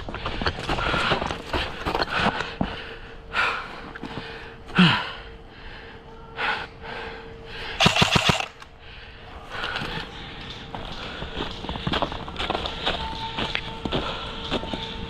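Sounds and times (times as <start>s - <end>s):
person breathing: 0.0s - 12.8s, 13.9s - 15.0s.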